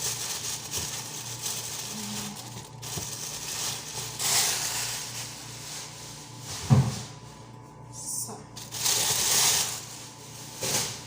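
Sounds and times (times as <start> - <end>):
plastic bags rustling: 0.0 - 7.4, 8.6 - 11.0
low steady hum: 0.0 - 11.0.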